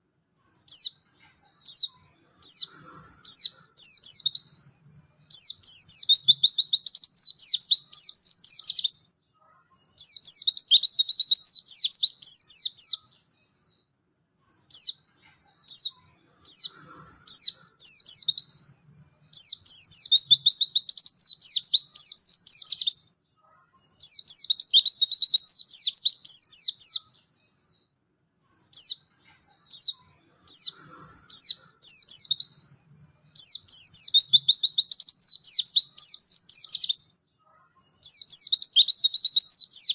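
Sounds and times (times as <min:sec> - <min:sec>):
songbird twittering: 0:00.0 - 0:39.9.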